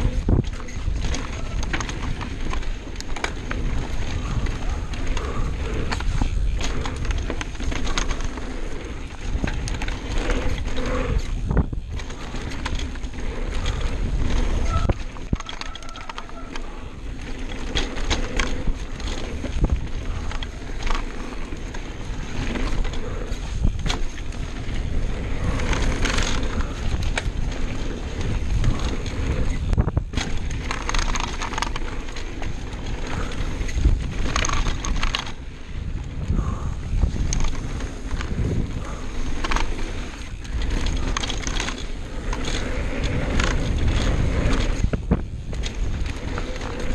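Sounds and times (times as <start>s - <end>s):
bike knocks and rattles: 0.0s - 46.9s
bike tyres rolling over dirt: 0.0s - 46.9s.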